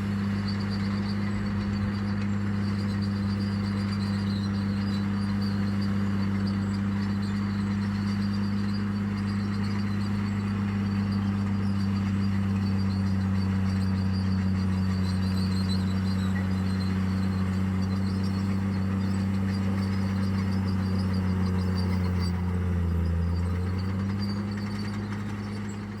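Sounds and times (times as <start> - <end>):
heavy machine diesel engine humming: 0.0 - 26.0.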